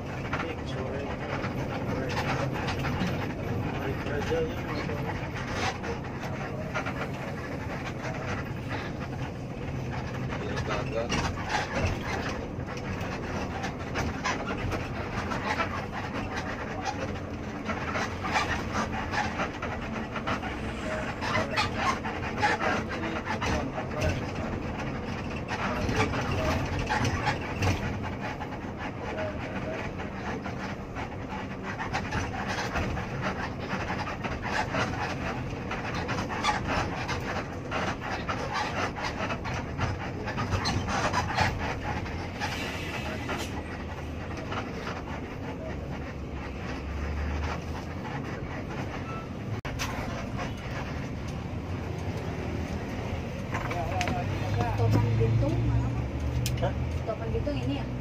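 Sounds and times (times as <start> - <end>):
bus engine hum: 0.0 - 58.0
interior rattles and clicks: 0.0 - 58.0
road noise: 0.0 - 58.0.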